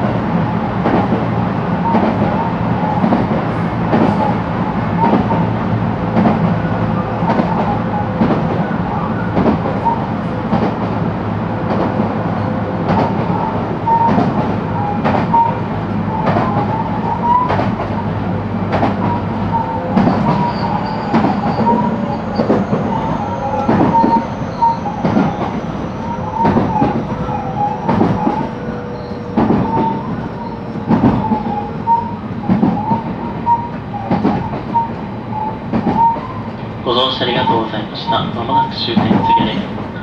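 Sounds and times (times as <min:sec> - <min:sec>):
train rumble: 0:00.0 - 0:40.0
train wheels clicking over rail joints: 0:00.8 - 0:04.4, 0:06.1 - 0:06.6, 0:07.2 - 0:11.0, 0:12.8 - 0:18.0, 0:18.6 - 0:22.9, 0:23.5 - 0:40.0.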